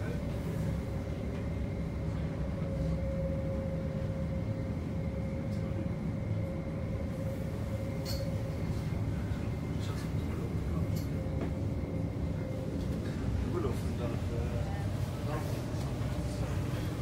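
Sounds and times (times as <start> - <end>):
tram motor whine: 0.0 - 17.0
tram rumbling: 0.0 - 17.0.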